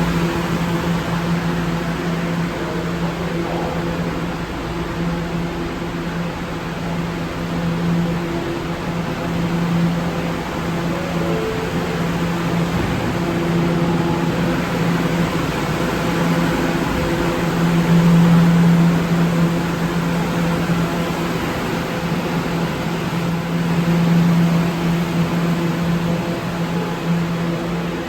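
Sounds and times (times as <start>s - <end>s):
subway train running: 0.0s - 28.0s.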